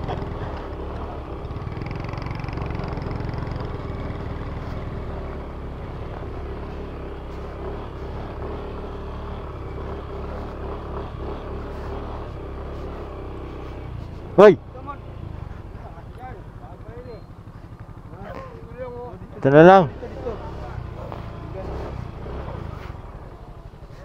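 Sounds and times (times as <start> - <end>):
road and wind noise: 0.0 - 24.0
vehicle engine hum: 0.0 - 24.0.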